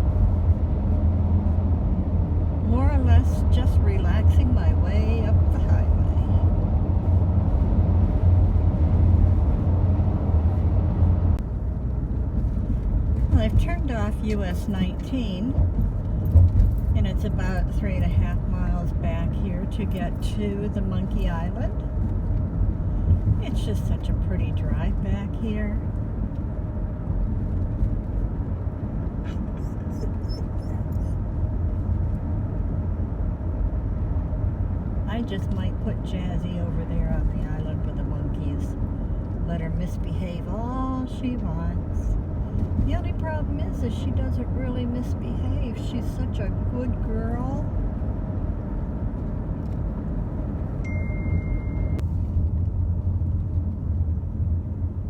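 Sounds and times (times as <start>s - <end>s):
road and engine rumble: 0.0s - 55.0s.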